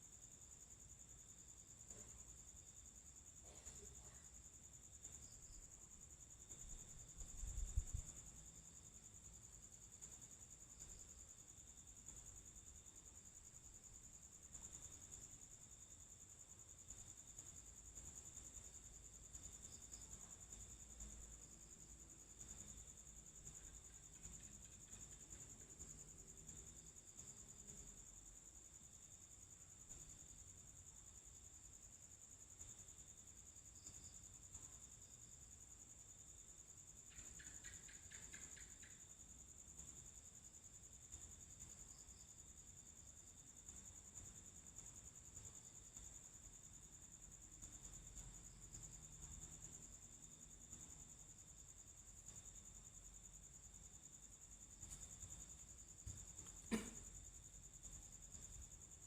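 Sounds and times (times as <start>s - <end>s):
crickets trilling: 0.0s - 59.0s
rapid insect chirps: 0.0s - 59.0s.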